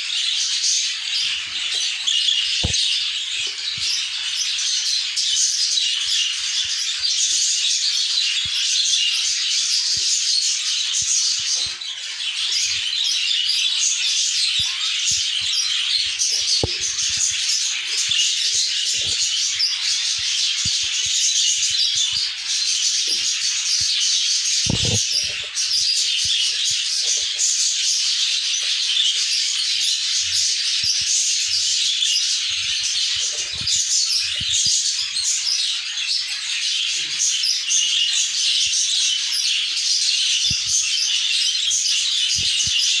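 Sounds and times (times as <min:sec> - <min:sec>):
budgerigars chattering and chirping: 0:00.0 - 0:43.0.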